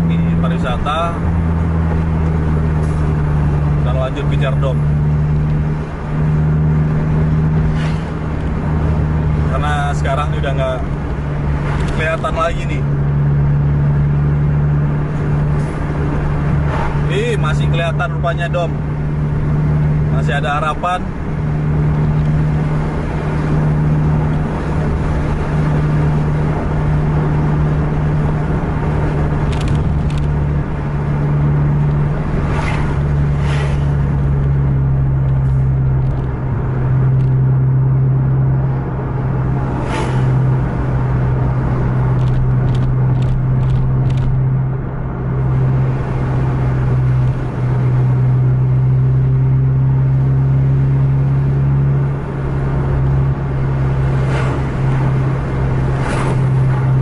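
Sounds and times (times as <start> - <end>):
diesel engine droning: 0.0 - 57.0
road rumble: 0.0 - 57.0.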